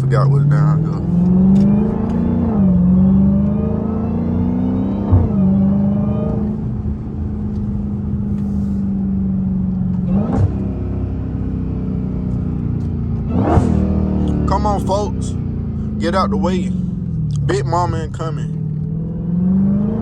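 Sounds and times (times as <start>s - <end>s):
supercharged car engine driving: 0.0s - 20.0s.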